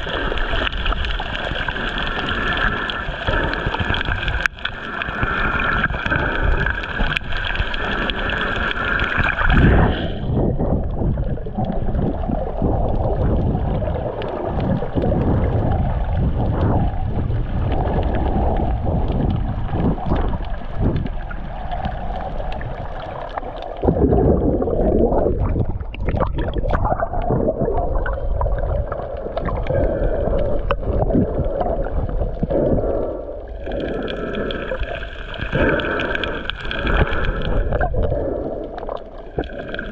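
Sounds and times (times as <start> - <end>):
water swishing and gurgling: 0.0 - 39.9.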